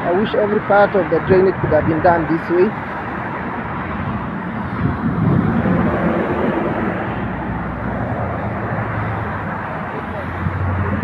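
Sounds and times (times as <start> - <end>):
vehicle passing on wet road: 0.0 - 11.0.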